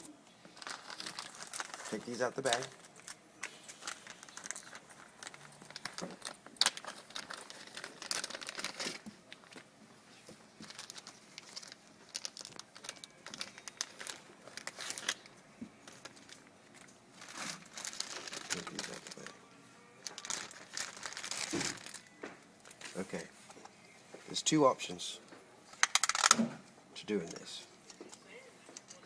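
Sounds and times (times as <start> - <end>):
bag crinkling and rustling: 0.4 - 24.6.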